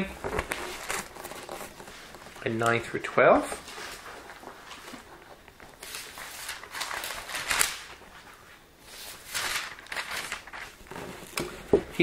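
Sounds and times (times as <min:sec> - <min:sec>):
book pages rustling: 0:00.1 - 0:12.0.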